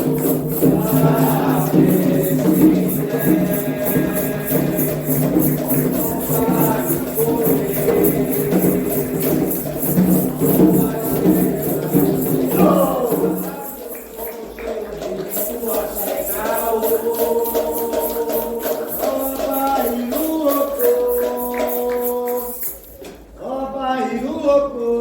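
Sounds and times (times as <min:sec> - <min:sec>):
shaker rhythm: 0:00.0 - 0:23.4
voices singing together: 0:00.0 - 0:25.0.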